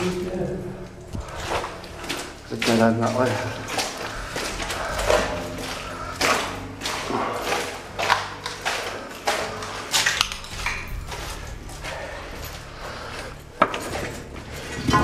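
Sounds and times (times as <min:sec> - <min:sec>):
footsteps crunching on rubble: 0:00.0 - 0:15.0
low steady hum: 0:00.0 - 0:15.0.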